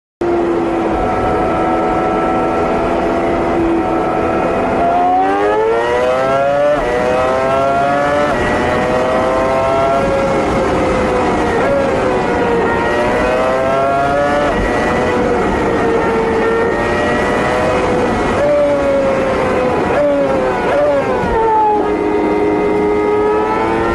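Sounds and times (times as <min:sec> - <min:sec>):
car engine accelerating with upshifts: 0:00.2 - 0:23.9.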